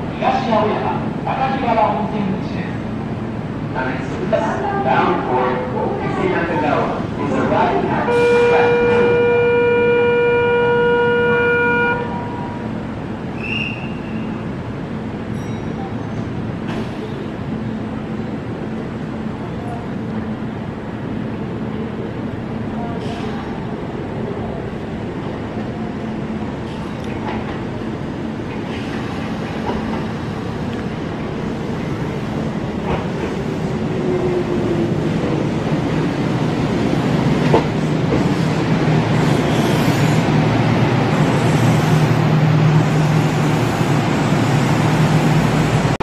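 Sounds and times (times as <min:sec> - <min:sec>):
electric train arriving: 0:00.0 - 0:46.0.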